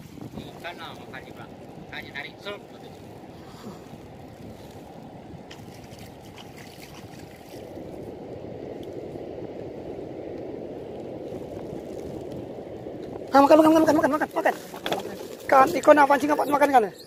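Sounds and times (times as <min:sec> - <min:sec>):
sea water rushing and gurgling: 0:00.0 - 0:17.0.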